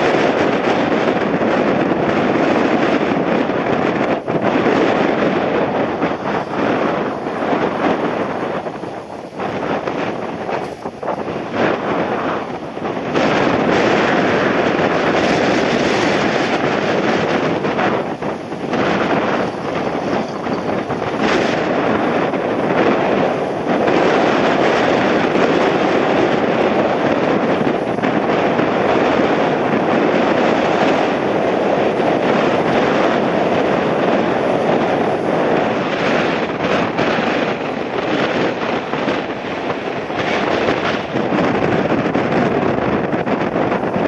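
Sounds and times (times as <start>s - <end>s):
jet engines roaring: 0.0s - 44.0s
wind buffeting microphone: 0.0s - 44.0s.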